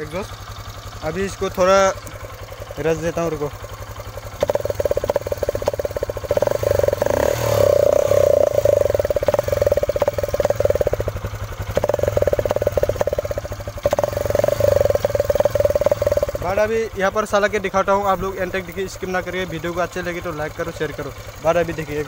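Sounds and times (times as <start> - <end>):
motorcycle engine exhaust pulses: 0.0 - 22.0.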